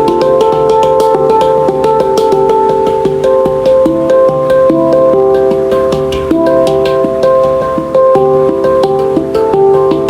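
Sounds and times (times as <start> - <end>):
handpan melody: 0.0 - 10.0.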